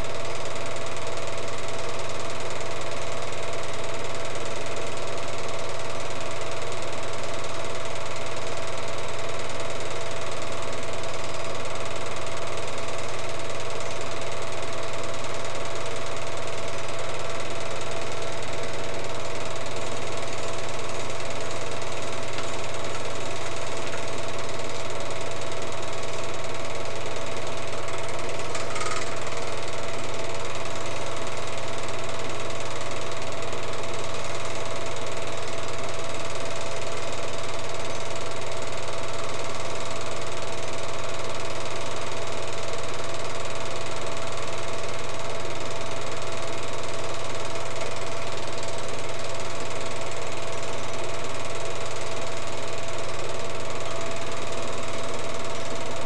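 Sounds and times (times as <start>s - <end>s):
film projector humming: 0.0s - 56.0s.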